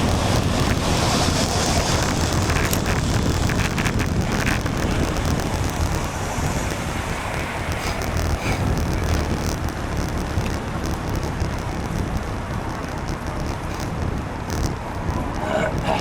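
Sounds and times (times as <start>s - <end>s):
road and traffic noise: 0.0s - 16.0s
wind rumbling on microphone: 0.0s - 16.0s
faint ticks: 1.6s - 16.0s.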